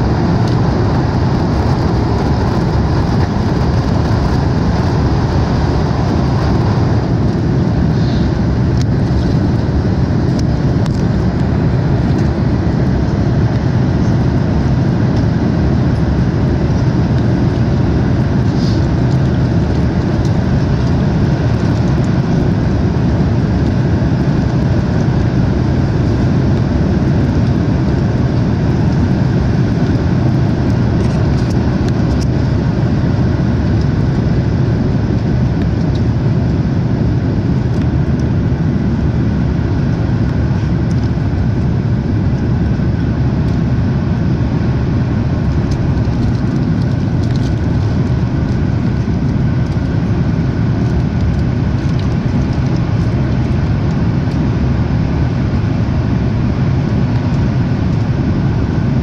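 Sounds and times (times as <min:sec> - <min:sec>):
jet engines in cabin: 0:00.0 - 0:59.0
rushing air: 0:00.0 - 0:59.0.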